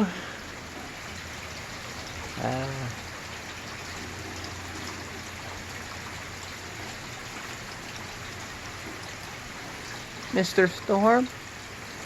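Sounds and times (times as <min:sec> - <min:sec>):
low steady hum: 0:00.0 - 0:12.0
steady rain falling: 0:00.0 - 0:12.0.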